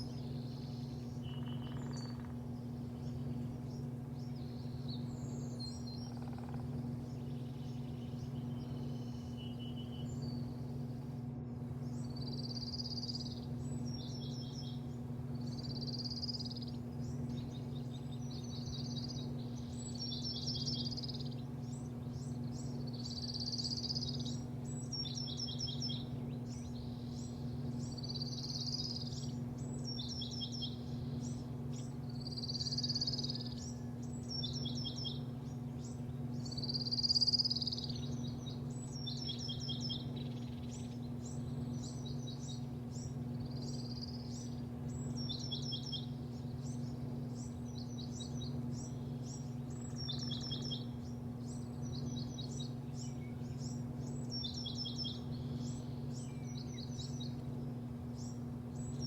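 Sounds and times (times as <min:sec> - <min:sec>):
birds chirping and calling: 0:00.0 - 0:11.0, 0:11.8 - 0:59.0
steady low hum: 0:00.0 - 0:59.0.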